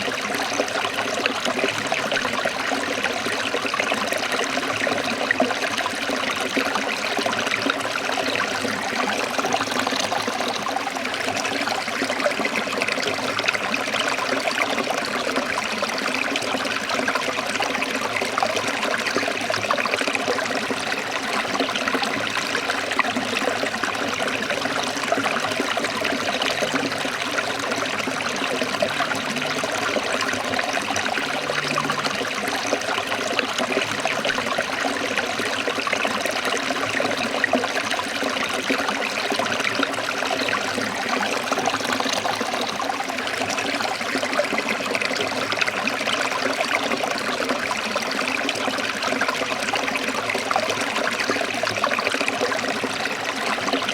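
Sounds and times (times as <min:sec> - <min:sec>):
stream trickling and splashing: 0:00.0 - 0:53.9.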